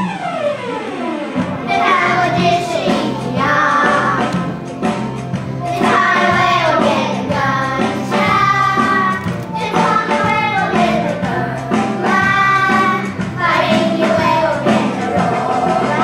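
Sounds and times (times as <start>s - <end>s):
instrumental backing music: 0.0s - 16.0s
children singing: 1.6s - 4.6s, 5.6s - 16.0s.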